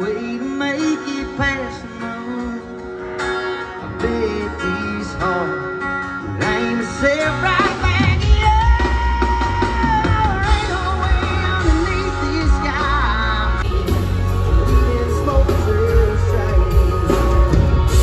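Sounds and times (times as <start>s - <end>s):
live country band playing: 0.0s - 18.0s
person singing: 0.0s - 18.0s.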